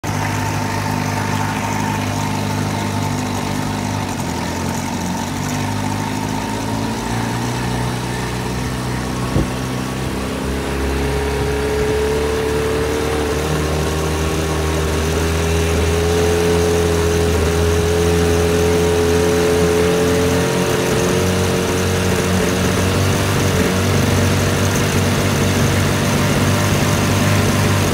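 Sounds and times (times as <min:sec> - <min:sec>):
outboard motor running: 0:00.0 - 0:27.9.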